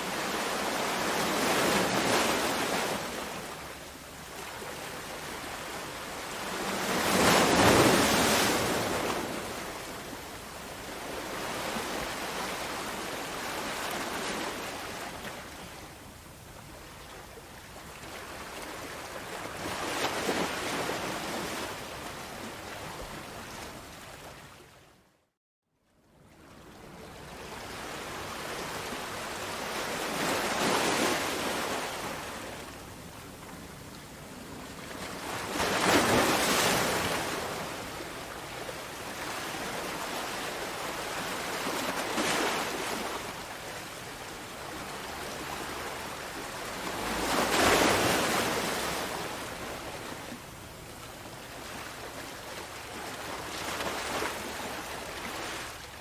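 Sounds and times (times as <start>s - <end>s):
sea waves breaking on shore: 0.0s - 15.9s, 16.6s - 24.8s, 26.4s - 56.0s.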